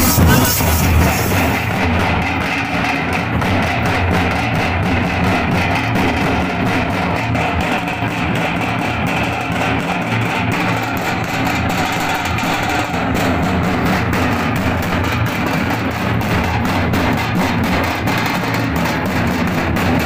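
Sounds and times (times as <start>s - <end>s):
drums beating fast rhythm: 0.0s - 20.0s.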